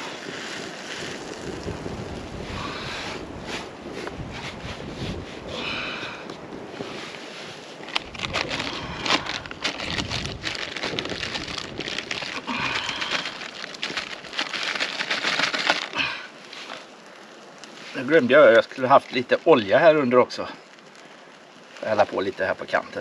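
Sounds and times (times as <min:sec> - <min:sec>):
wood fire crackling and hissing: 0:00.0 - 0:23.0.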